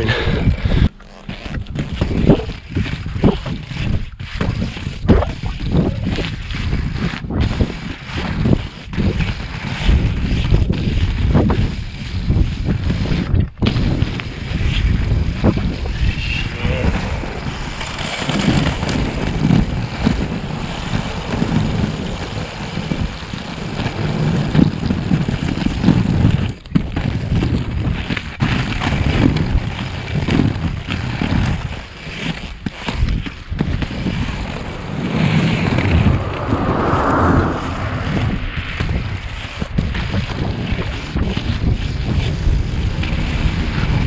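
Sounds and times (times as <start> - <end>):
inline skate wheels on asphalt: 0.0 - 44.0
wind buffeting microphone: 1.6 - 28.0, 32.8 - 44.0.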